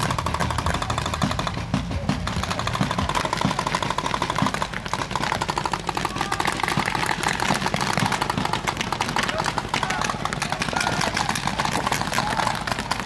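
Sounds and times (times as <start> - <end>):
paintball markers firing: 0.0 - 13.0.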